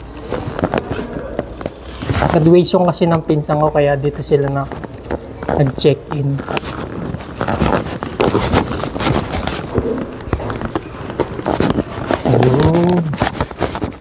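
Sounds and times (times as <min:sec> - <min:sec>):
paper bag crinkling: 0:00.0 - 0:14.0.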